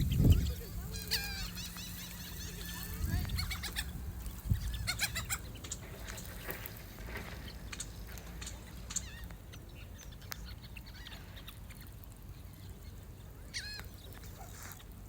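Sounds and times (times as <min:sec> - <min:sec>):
ducks and geese calling: 0:00.0 - 0:15.0.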